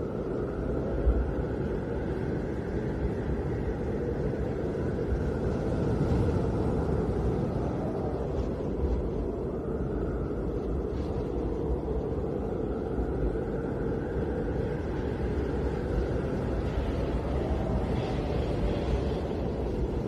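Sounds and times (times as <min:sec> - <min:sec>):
snowstorm wind blowing: 0:00.0 - 0:20.0.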